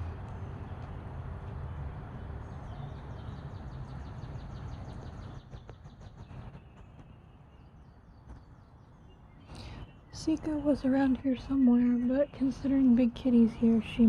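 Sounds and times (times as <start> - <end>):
small bird singing trill: 2.5 - 14.0.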